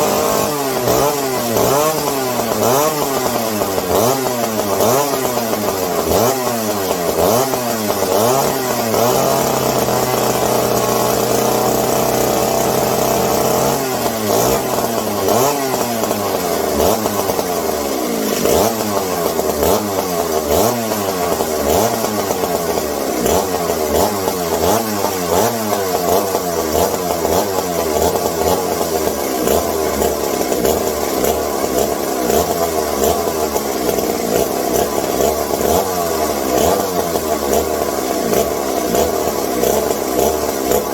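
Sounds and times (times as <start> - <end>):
chainsaw engine running unevenly: 0.0 - 40.9.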